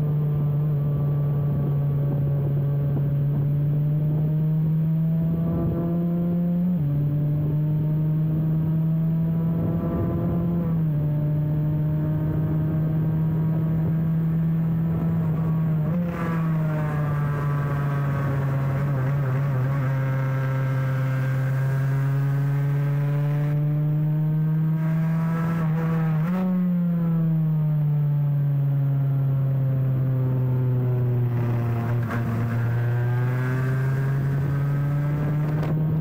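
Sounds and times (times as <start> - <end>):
motorcycle engine revving high: 0.0 - 27.5, 29.4 - 36.0.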